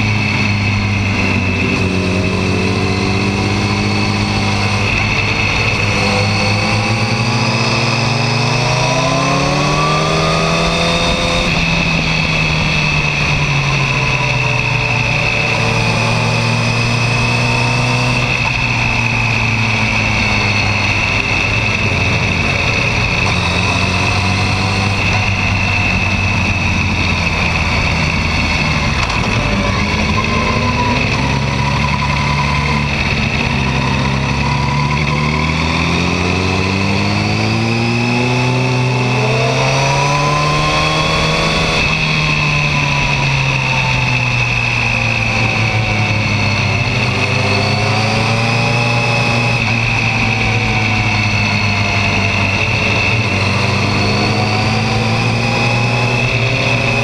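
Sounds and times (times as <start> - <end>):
motorcycle engine revving: 0.0 - 57.0
steady rush of noise: 0.0 - 57.0.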